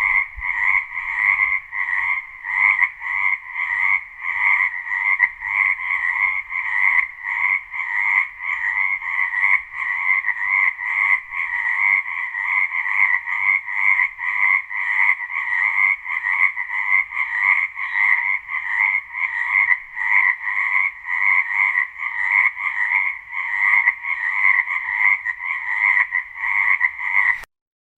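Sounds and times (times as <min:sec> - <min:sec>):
frog croaking: 0:00.0 - 0:27.5.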